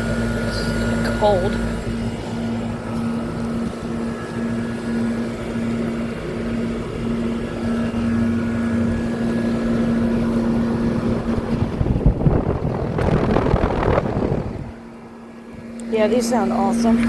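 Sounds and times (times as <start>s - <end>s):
compressor hum: 0.0s - 17.0s
condenser fans whooshing: 0.0s - 17.0s.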